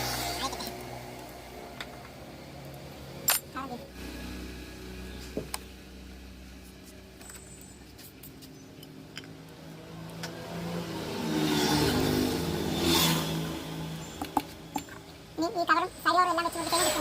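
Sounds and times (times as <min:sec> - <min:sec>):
scooter engine idling and revving: 0:00.0 - 0:17.0.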